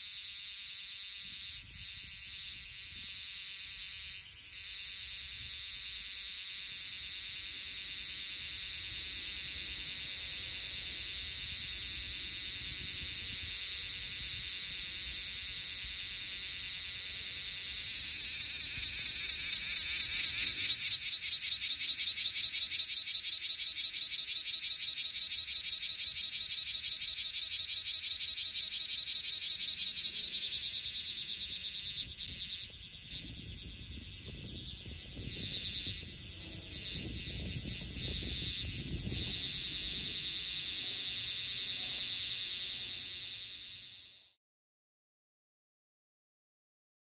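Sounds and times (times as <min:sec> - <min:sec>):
cicada pulsing call: 0:00.0 - 0:44.4.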